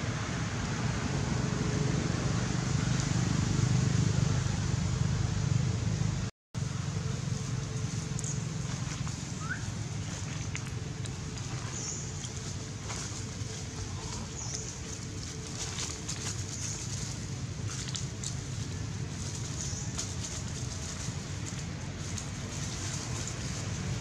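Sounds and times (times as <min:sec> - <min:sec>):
outdoor rumble and hiss: 0:00.0 - 0:24.0.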